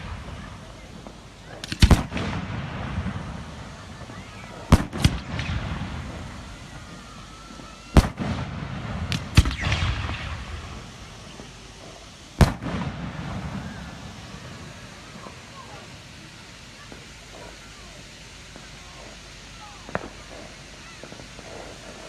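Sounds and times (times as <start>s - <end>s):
fireworks exploding with echo: 0.0s - 22.0s.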